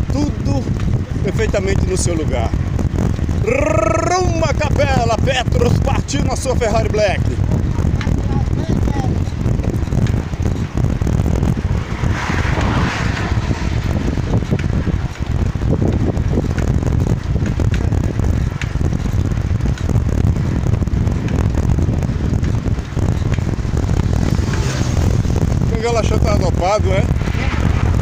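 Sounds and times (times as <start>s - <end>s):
wind buffeting microphone: 0.0s - 28.0s
bicycle clicks and rattles: 0.1s - 28.0s.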